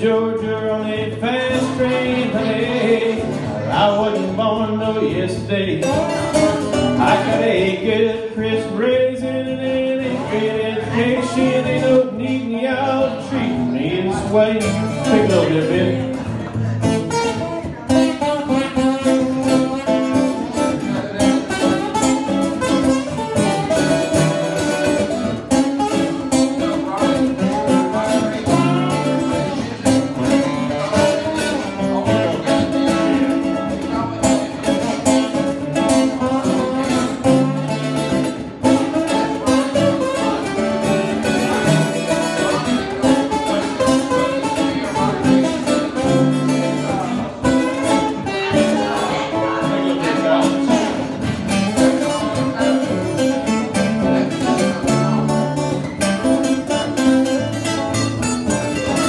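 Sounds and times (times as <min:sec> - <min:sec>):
country band playing: 0:00.0 - 0:59.0
lead guitar picking quick runs: 0:00.0 - 0:59.0.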